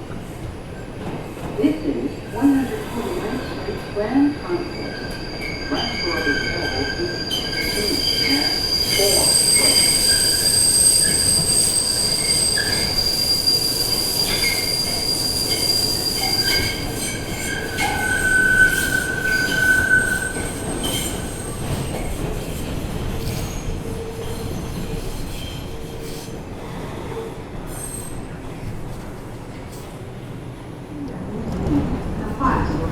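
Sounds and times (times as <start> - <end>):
train wheels squealing on rails: 2.1 - 28.8.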